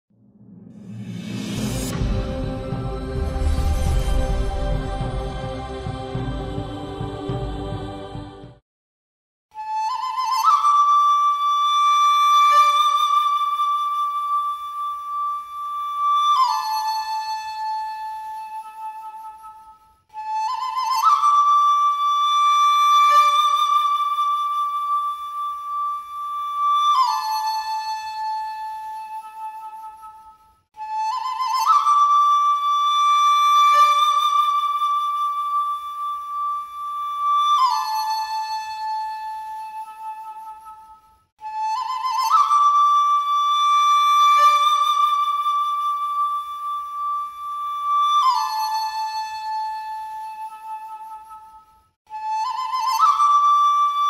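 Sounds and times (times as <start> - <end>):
solo flute: 0.6 - 8.3, 9.5 - 54.0.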